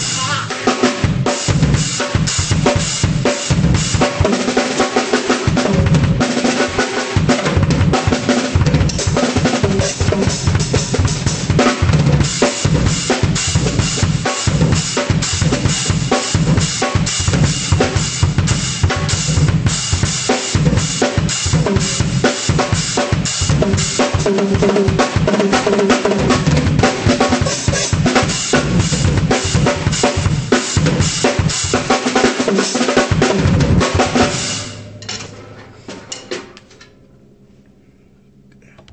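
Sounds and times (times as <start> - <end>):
drum kit playing: 0.0 - 36.6.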